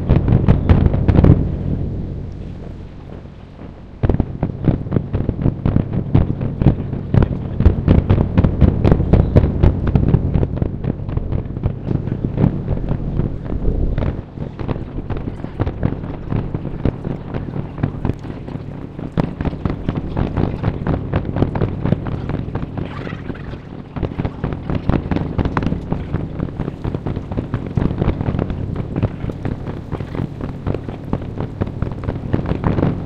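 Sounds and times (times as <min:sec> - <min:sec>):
fireworks bangs and crackles: 0:00.0 - 0:33.0
steady low hum: 0:00.0 - 0:33.0.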